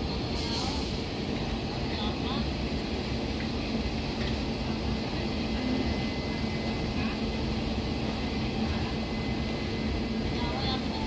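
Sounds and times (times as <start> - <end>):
train coaches rumbling on rails: 0.0 - 11.0.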